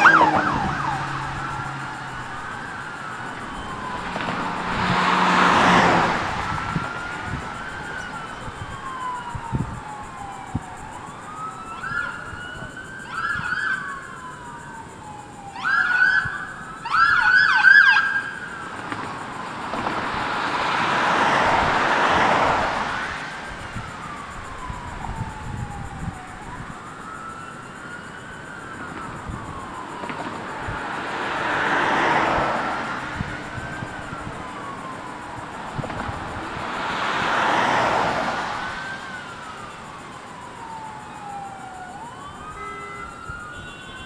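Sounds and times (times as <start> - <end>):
passing vehicles: 0.0 - 44.0
police sirens wailing: 0.0 - 44.0
rapid siren yelps: 0.0 - 44.0.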